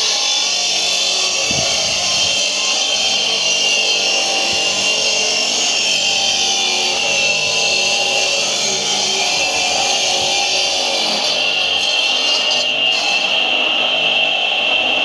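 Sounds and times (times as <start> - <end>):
power saw cutting stone: 0.0 - 15.0.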